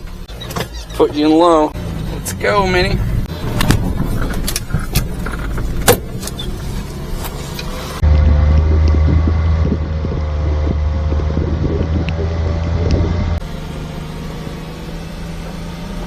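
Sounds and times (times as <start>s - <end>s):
small truck engine running: 1.8s - 16.0s.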